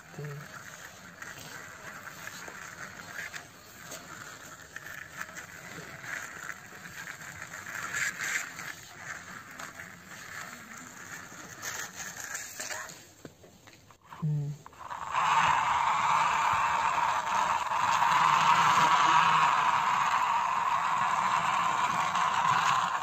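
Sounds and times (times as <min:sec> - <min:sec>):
plastic toy wheels rattling on concrete: 0:00.0 - 0:23.0.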